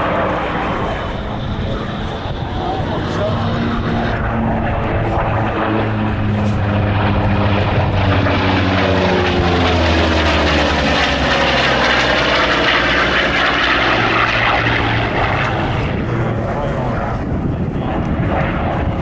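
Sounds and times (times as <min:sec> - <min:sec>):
propeller plane flying past: 0:00.0 - 0:19.0.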